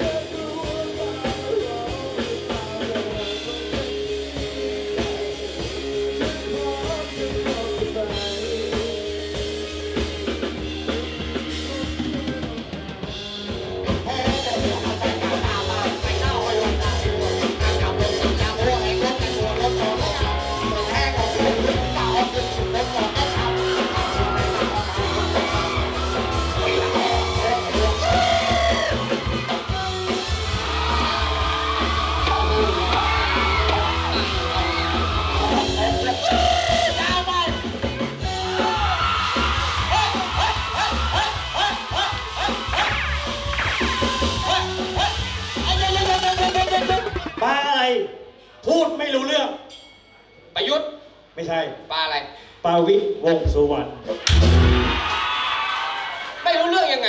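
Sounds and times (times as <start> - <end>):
male singer: 0.0 - 43.0, 44.0 - 47.4
electric guitar: 0.0 - 47.4, 54.1 - 55.4
bass guitar: 0.0 - 48.0, 53.5 - 55.5
drum kit: 0.0 - 48.0, 54.1 - 56.2.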